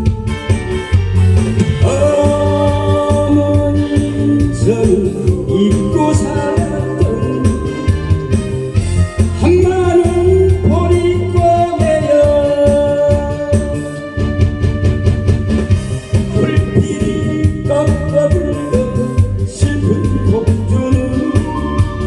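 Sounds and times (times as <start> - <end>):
trot music with sliding melody: 0.0 - 22.0.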